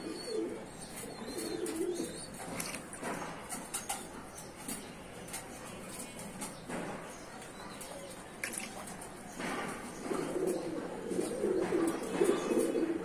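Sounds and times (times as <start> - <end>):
pigeons cooing: 0.0 - 5.5, 7.8 - 13.0.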